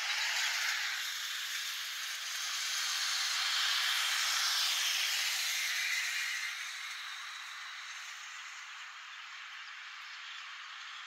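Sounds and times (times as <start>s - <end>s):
car tyres hissing on road: 0.0s - 8.9s.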